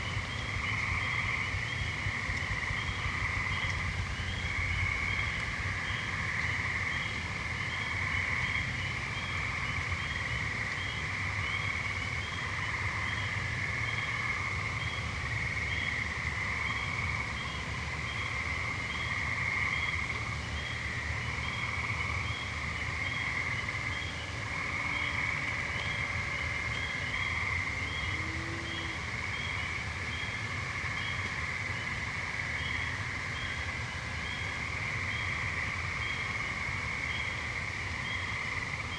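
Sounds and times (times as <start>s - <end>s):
treefrogs trilling: 0.0s - 38.9s.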